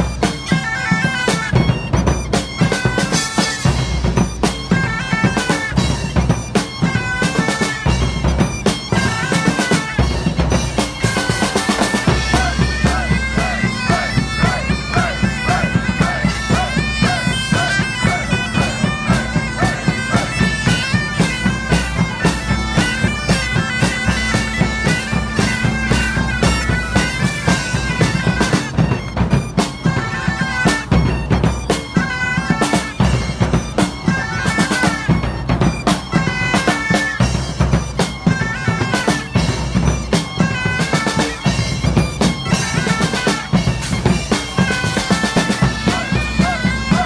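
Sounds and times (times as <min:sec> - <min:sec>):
bagpipes playing over drone: 0:00.0 - 0:47.0
drums beating: 0:00.0 - 0:47.0.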